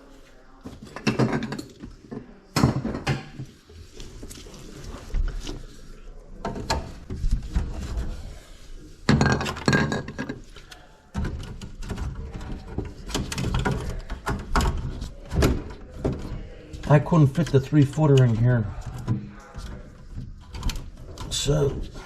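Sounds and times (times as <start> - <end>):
plumbing parts and tools clattering: 0.6 - 8.3, 9.0 - 22.0.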